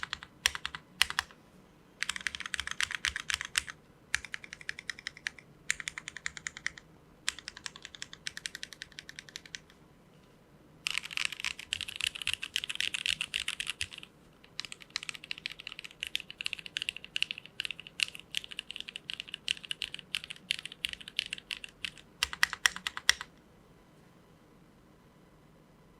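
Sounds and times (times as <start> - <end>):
mechanical keyboard typing clacks: 0.0 - 1.3, 2.0 - 9.7, 10.9 - 23.3.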